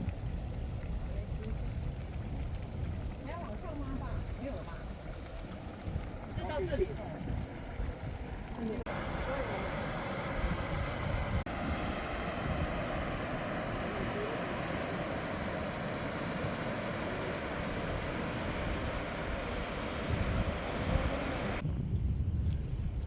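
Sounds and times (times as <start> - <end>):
wind buffeting microphone: 0.0 - 23.0
steam venting with rushing hiss: 2.8 - 21.6.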